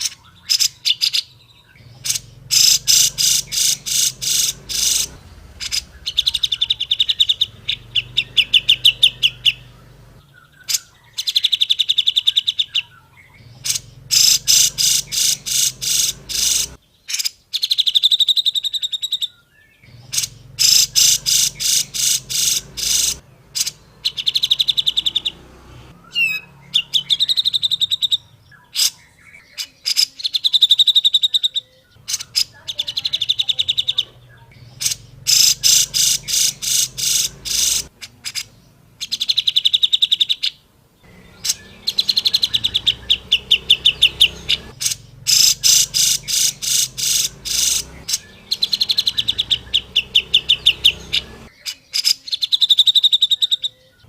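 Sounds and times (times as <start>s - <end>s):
bird singing rattling high notes: 0.0s - 17.3s, 19.8s - 29.8s, 30.7s - 38.7s, 39.3s - 51.9s.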